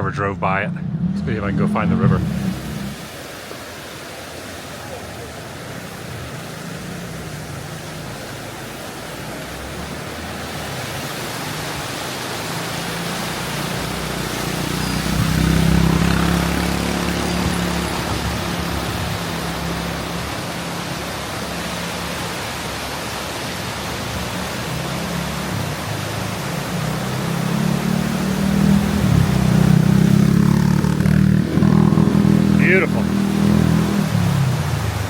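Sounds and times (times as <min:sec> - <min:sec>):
motor vehicle passing: 0:00.0 - 0:03.5, 0:05.6 - 0:35.0
river rushing: 0:00.0 - 0:35.0.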